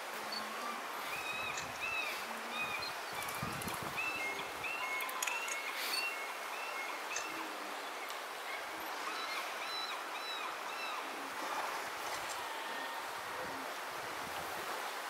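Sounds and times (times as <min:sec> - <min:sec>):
river water running: 0:00.0 - 0:15.0.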